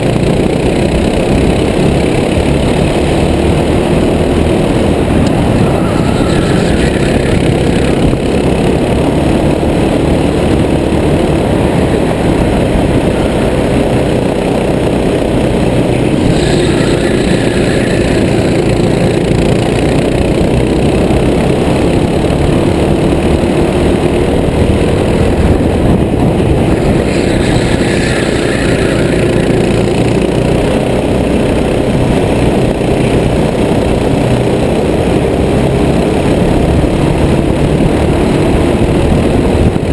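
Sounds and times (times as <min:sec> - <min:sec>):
kart engine running hard: 0:00.0 - 0:39.9
loud rushing noise: 0:00.0 - 0:39.9.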